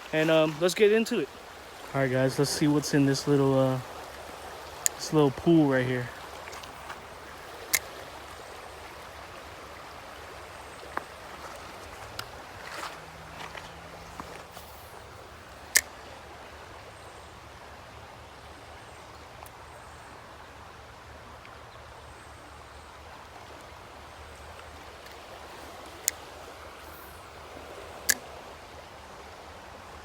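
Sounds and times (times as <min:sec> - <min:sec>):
creek water rushing into pool: 0:00.0 - 0:30.0.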